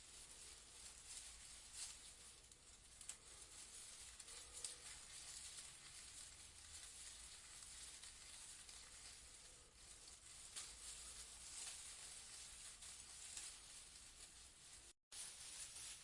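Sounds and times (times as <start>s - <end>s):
leaves rustling in breeze: 0.0s - 16.0s.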